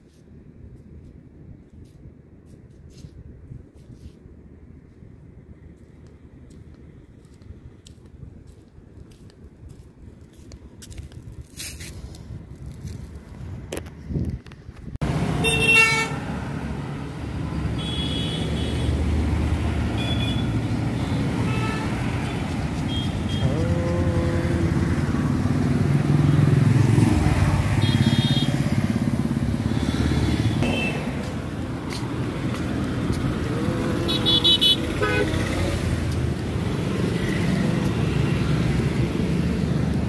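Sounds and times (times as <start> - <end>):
traffic engine and tyre rumble: 0.0 - 40.0.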